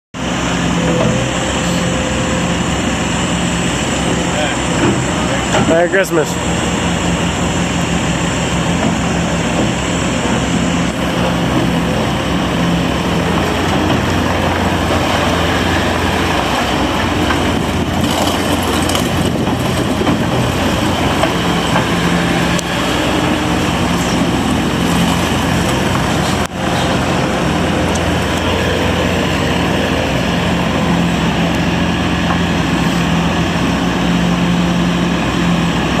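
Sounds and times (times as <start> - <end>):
diesel engine running: 0.2 - 36.0.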